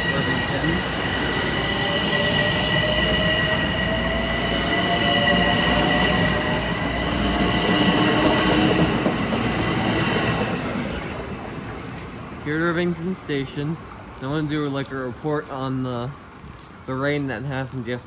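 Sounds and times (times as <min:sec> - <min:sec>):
train rumbling on tracks: 0:00.0 - 0:16.9.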